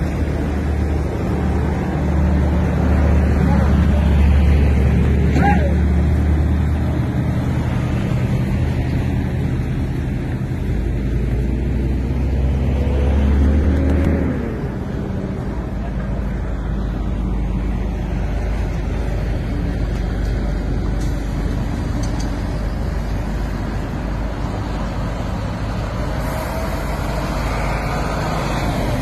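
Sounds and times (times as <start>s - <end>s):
traffic engines rumbling: 0.0s - 29.0s.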